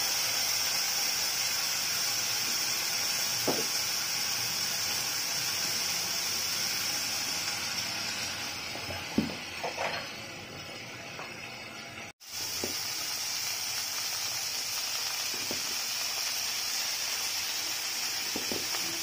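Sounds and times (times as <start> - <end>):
vegetables sizzling in a pan: 0.0 - 19.0.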